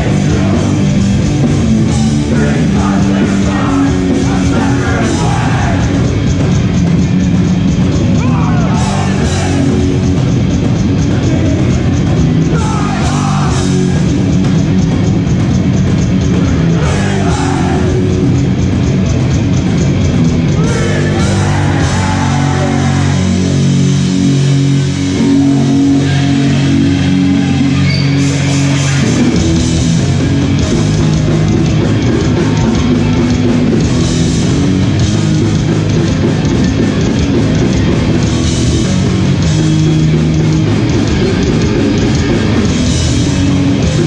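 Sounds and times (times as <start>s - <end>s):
distorted electric guitar chords: 0.0s - 44.0s
drums with crashing cymbals: 0.0s - 44.0s
punk band playing live: 0.0s - 44.0s.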